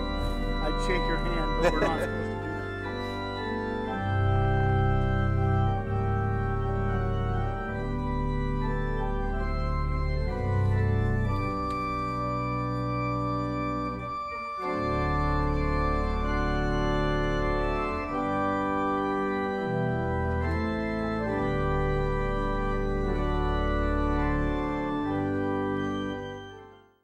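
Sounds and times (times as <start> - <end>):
organ playing sustained chords: 0.0 - 27.0.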